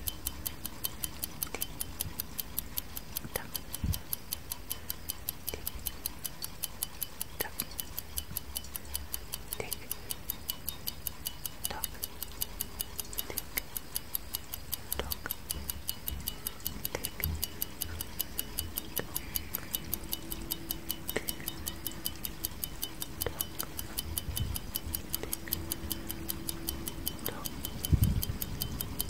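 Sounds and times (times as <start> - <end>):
clock ticking: 0.0 - 29.0.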